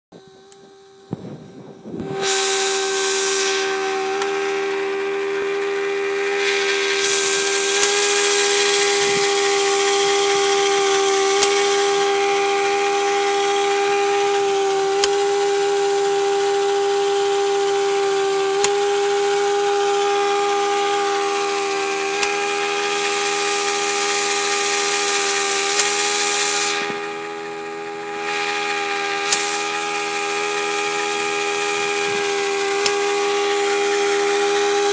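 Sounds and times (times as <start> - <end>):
air motor whining: 0.1 - 34.9
exhaust air hissing: 0.2 - 34.9.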